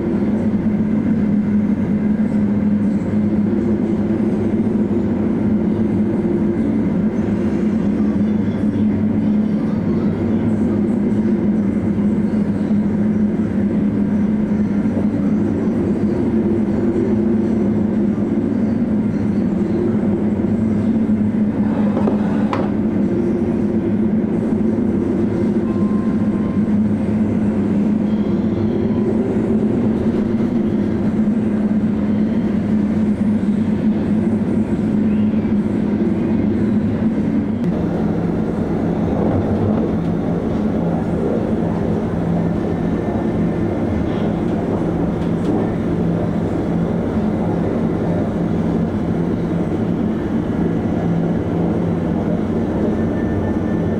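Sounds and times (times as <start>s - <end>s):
ferry engines droning: 0.0s - 53.9s.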